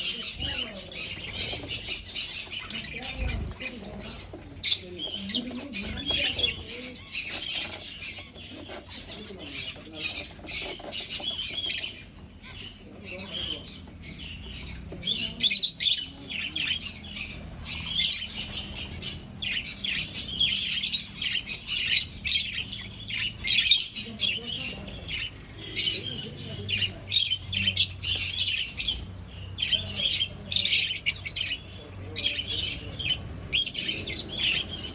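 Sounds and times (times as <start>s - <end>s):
finches chirping: 0.0s - 34.9s.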